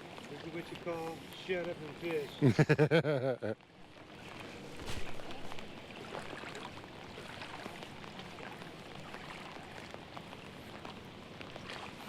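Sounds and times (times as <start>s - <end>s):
rain falling: 0.0s - 11.8s.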